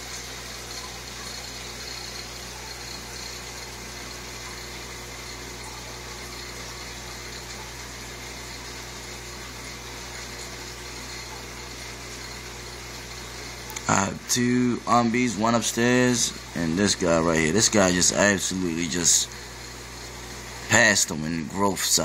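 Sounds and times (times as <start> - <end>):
aquarium filter pump hum: 0.0 - 22.0.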